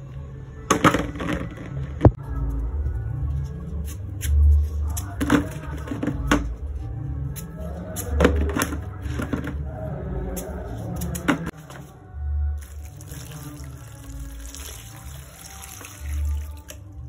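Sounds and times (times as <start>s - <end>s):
soft background music with beat: 0.0s - 17.0s.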